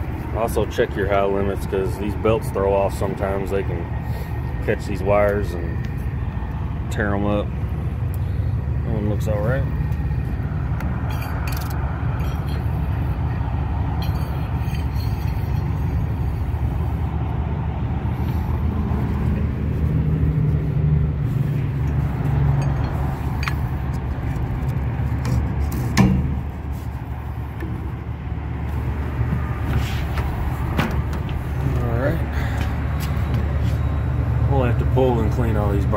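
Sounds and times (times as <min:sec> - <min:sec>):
rooftop unit rumbling: 0:00.0 - 0:35.9.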